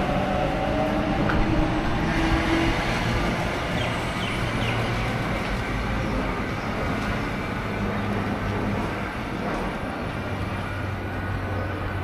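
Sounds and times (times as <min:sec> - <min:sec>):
train wheels on rail: 0:00.0 - 0:12.0.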